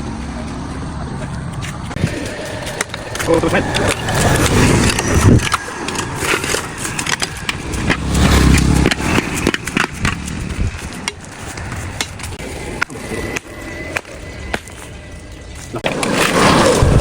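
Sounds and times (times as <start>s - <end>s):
low rumble: 0.0s - 15.8s
hand tools scraping on road: 0.0s - 17.0s.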